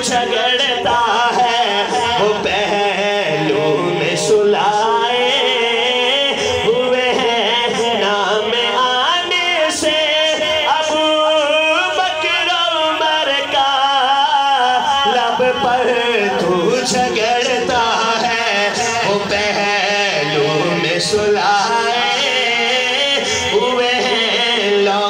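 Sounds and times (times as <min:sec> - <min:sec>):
man singing over a pa system: 0:00.0 - 0:25.0.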